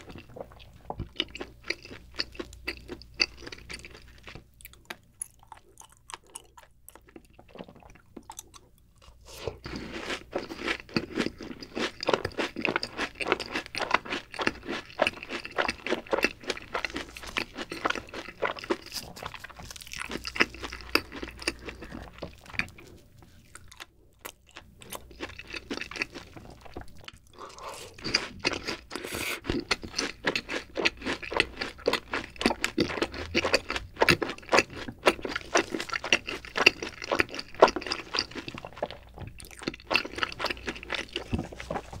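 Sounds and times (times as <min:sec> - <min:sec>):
crunching and chewing food: 0:00.0 - 0:42.0.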